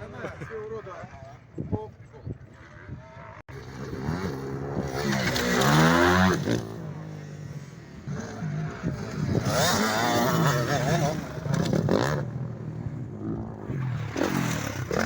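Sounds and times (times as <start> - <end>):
motorcycle engine revving: 2.6 - 15.0.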